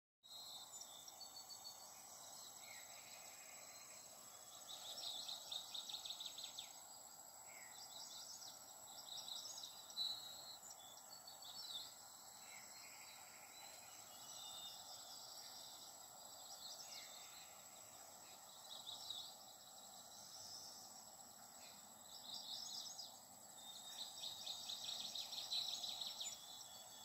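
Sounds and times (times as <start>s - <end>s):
background hiss: 0.3s - 27.0s
distant birds chirping: 0.4s - 27.0s.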